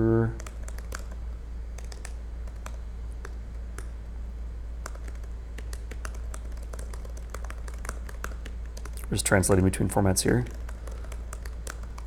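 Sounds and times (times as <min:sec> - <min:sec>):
low steady hum: 0:00.0 - 0:12.0
keyboard typing: 0:00.4 - 0:01.2, 0:01.8 - 0:03.9, 0:04.8 - 0:12.0.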